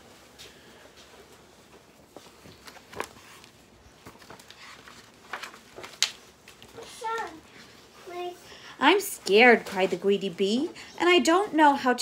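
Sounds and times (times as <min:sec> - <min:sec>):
book pages rustling: 0:00.0 - 0:11.8.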